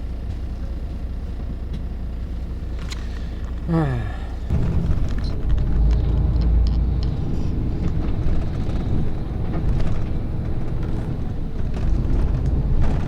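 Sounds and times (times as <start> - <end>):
coach engine rumbling: 0.0 - 13.0.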